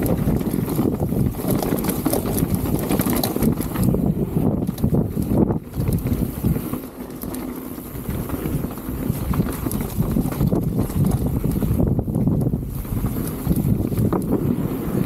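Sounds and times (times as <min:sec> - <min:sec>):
bike rattling over bumps: 0:00.0 - 0:15.0
bike tyre rumble: 0:00.0 - 0:15.0
wind buffeting microphone: 0:00.0 - 0:15.0.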